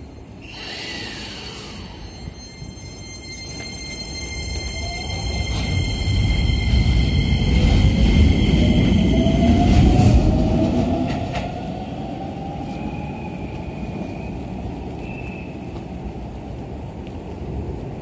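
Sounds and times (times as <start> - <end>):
train wheel rumble: 0.8 - 18.0.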